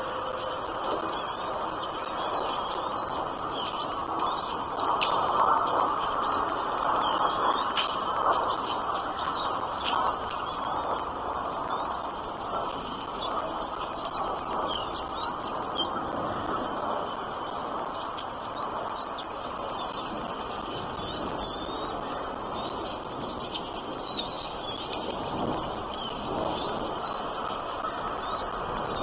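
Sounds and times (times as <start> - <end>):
steady rushing noise: 0.0 - 29.0
small birds chirping: 0.5 - 29.0.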